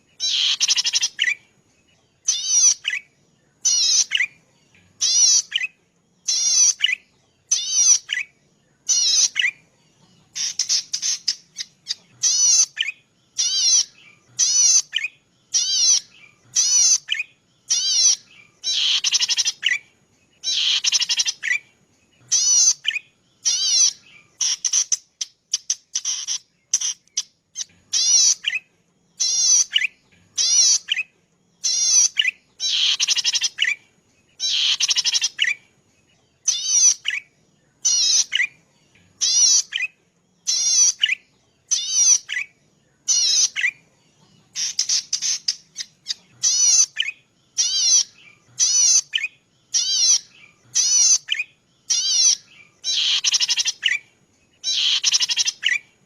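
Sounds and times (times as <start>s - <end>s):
bird warbling calls: 0.0s - 1.6s, 2.2s - 35.7s, 36.4s - 56.0s.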